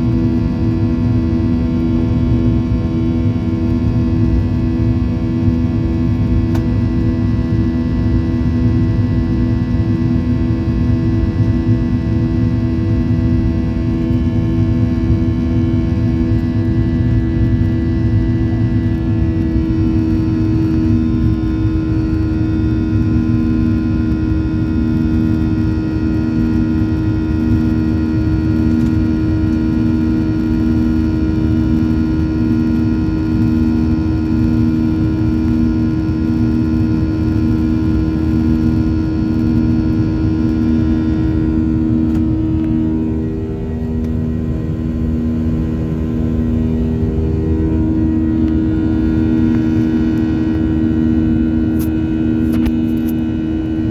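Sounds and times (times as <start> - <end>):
jet engine cabin roar: 0.0 - 53.9
pulsing droning hum: 0.0 - 53.9.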